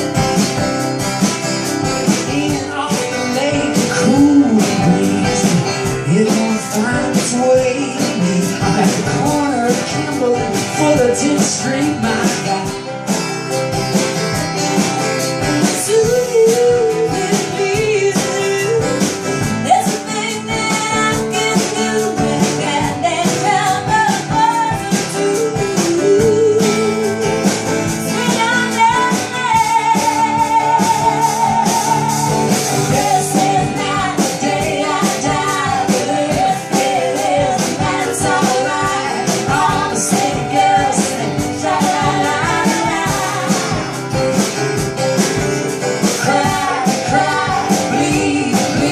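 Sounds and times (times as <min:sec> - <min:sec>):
guitar accompaniment: 0:00.0 - 0:48.9.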